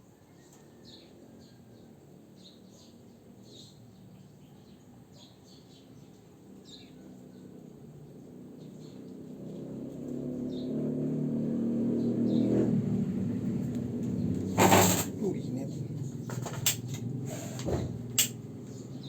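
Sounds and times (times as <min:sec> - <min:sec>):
small birds chirping: 0:00.4 - 0:09.6, 0:10.4 - 0:10.9, 0:11.9 - 0:17.3, 0:18.0 - 0:19.0.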